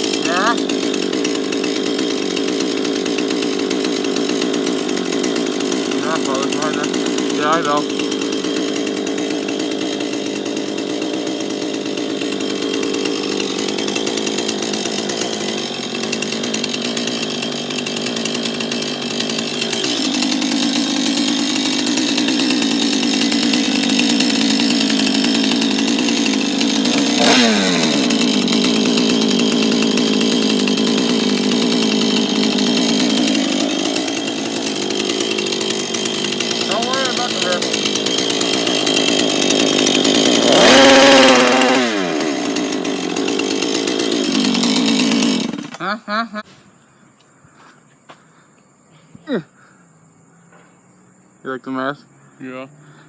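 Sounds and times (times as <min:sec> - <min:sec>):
small engine running: 0:00.0 - 0:46.4.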